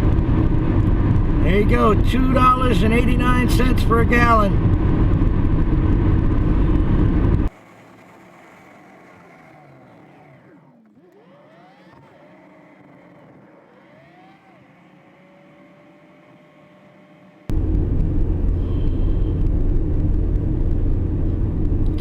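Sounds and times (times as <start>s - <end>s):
car engine accelerating: 0.0s - 22.0s
road noise rumble: 0.0s - 22.0s.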